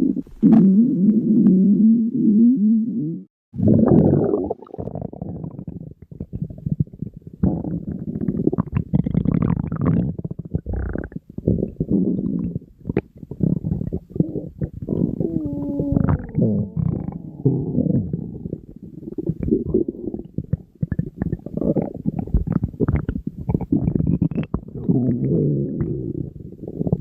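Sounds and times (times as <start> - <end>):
stomach growling and gurgling: 0.0 - 27.0.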